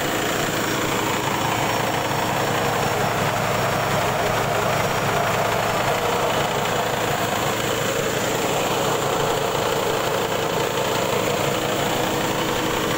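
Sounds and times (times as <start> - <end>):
rice huller running: 0.0 - 12.9.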